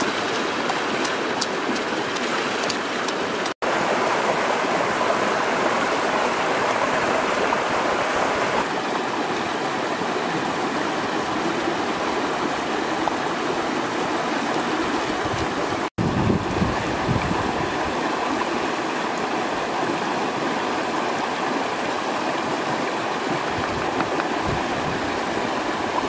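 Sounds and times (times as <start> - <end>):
stream flowing over stones: 0.0 - 26.0.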